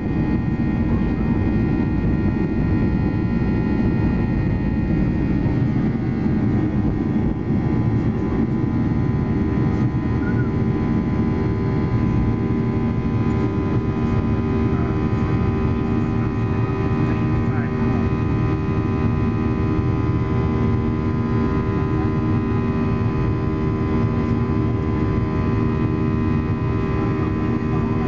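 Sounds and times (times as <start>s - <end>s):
jet engine deep rumble: 0.0s - 28.0s.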